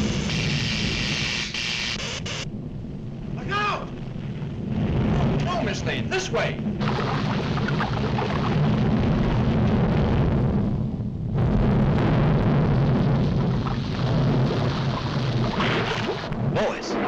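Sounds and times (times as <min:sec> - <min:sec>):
cartoon volcano rumbling: 0:00.0 - 0:17.0.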